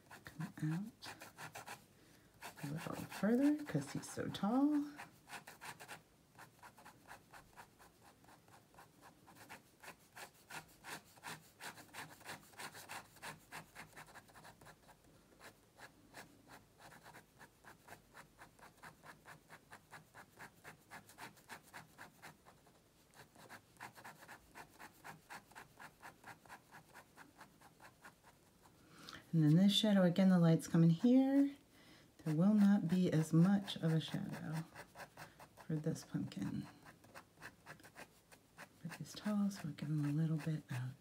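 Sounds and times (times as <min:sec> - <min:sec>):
pen scratching on paper: 0:00.0 - 0:01.8, 0:02.4 - 0:28.6, 0:32.2 - 0:41.0.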